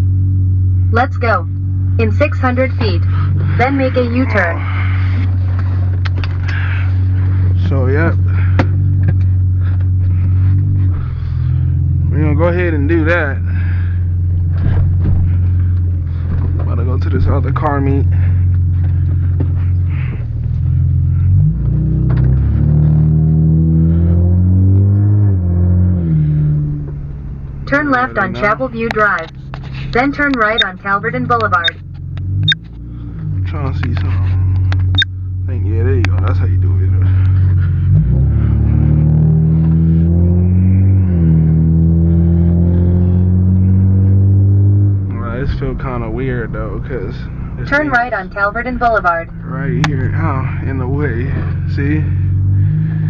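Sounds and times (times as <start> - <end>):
car engine from inside cabin: 0.0 - 53.0.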